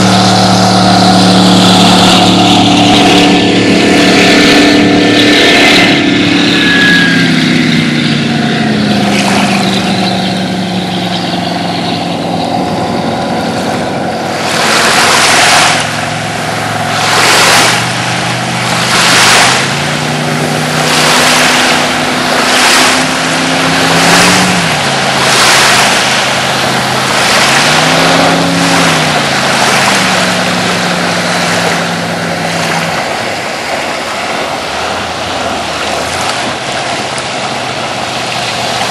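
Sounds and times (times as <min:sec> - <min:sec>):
speedboat engine: 0:00.0 - 0:38.9
splashing water: 0:00.0 - 0:38.9.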